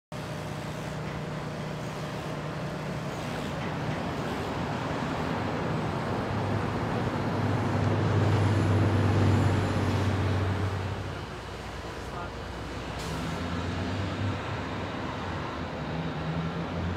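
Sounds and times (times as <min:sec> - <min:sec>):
heavy vehicle engine humming: 0:00.1 - 0:16.9
street traffic: 0:00.1 - 0:16.9.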